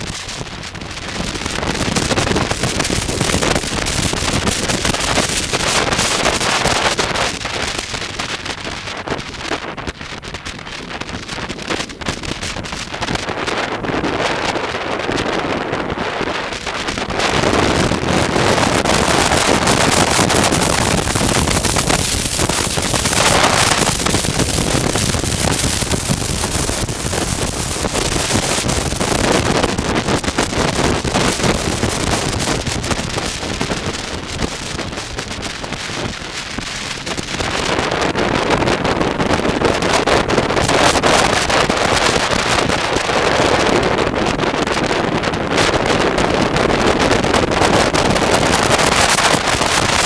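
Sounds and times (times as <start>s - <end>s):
motorcycle engine running: 0.0s - 44.3s
wind buffeting microphone: 0.0s - 50.0s.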